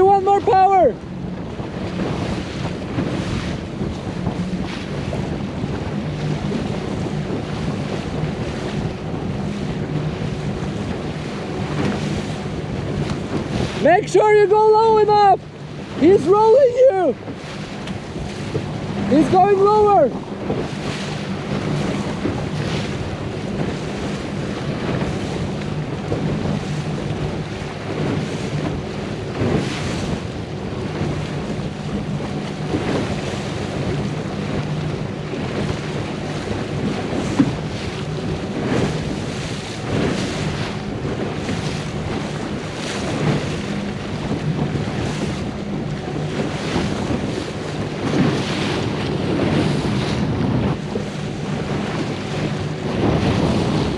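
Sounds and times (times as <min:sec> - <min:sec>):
low engine hum: 0:00.0 - 0:53.9
water rushing and splashing: 0:00.0 - 0:53.9
wind buffeting microphone: 0:00.0 - 0:53.9.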